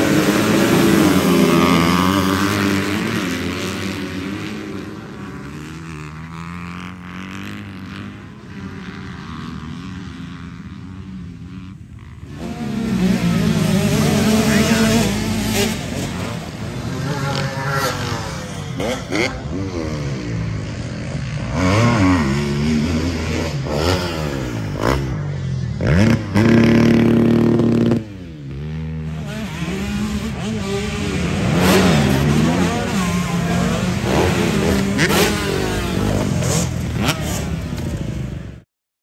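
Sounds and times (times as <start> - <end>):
dirt bike engines revving: 0.0 - 38.6.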